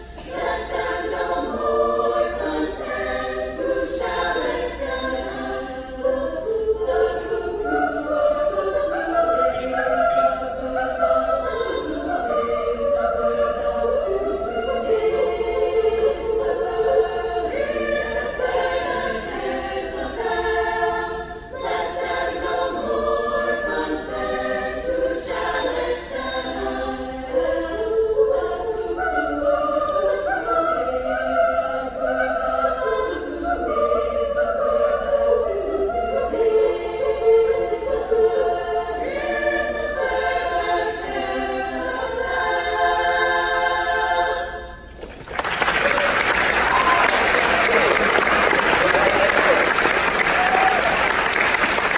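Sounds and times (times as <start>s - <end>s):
female choir singing unaccompanied: 0.0s - 44.9s, 45.5s - 51.9s.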